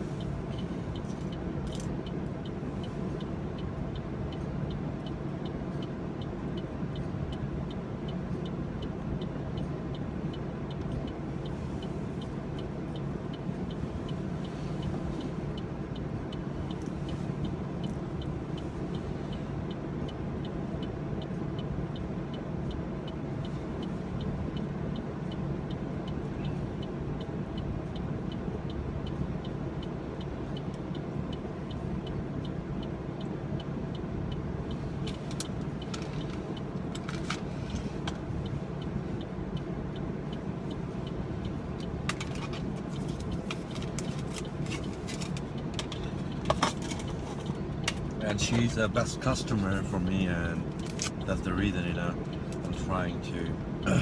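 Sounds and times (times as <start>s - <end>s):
car engine idling: 0.0s - 54.0s
light regular ticking: 0.0s - 54.0s.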